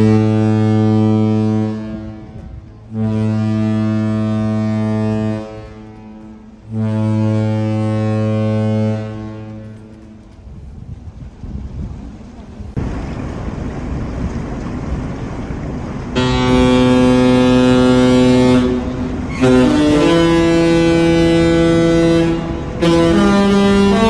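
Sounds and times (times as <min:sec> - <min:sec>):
deep ship's horn blasts: 0:00.0 - 0:10.7, 0:12.8 - 0:24.0.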